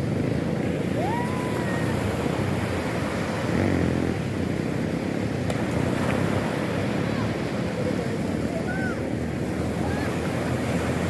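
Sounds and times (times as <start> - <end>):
sea waves: 0.0 - 11.0.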